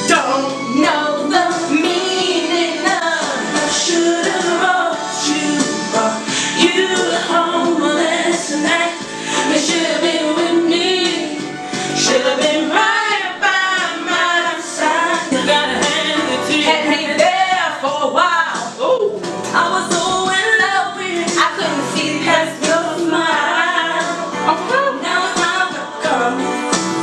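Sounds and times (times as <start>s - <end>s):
pop song with female vocals: 0.0s - 27.0s.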